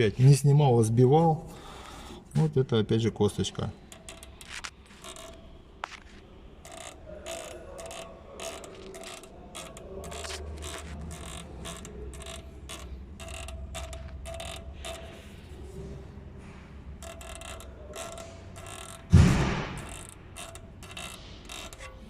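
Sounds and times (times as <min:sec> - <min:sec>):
ball joint creaking and squeaking: 0:03.8 - 0:22.0.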